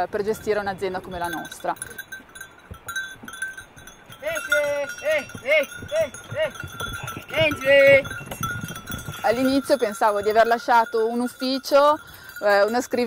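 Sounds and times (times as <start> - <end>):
goat bells ringing: 0.0 - 13.0.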